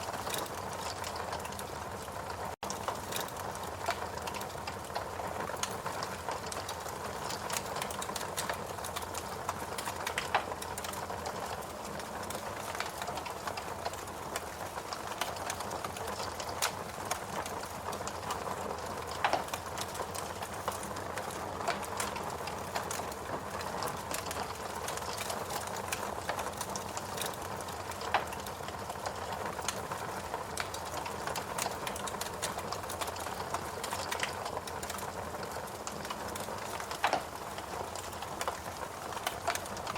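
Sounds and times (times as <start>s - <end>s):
fireplace crackling and popping: 0.0s - 39.9s.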